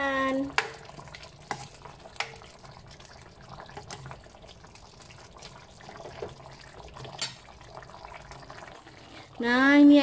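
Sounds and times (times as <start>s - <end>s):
gravy bubbling in a wok: 0.0s - 10.0s.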